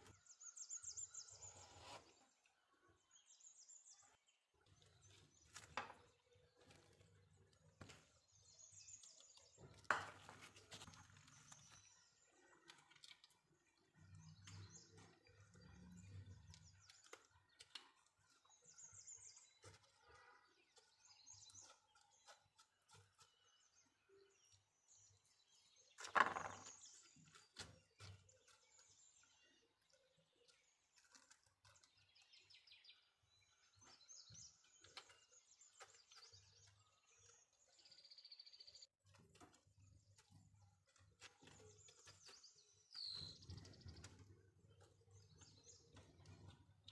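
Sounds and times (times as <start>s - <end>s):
faint birds chirping: 0.0s - 46.9s.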